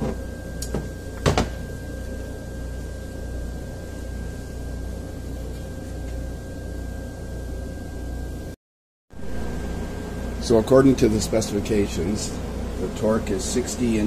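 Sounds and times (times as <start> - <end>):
low hum with high tone: 0.0 - 14.0.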